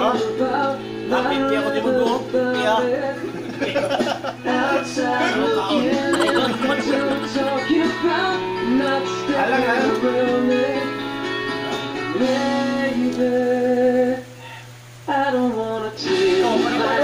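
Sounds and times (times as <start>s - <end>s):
song with singing over instruments: 0.0s - 17.0s.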